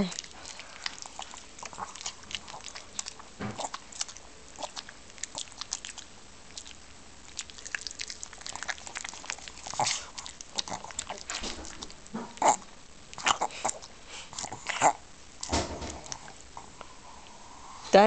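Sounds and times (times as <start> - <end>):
dog chewing melon: 0.0 - 16.7.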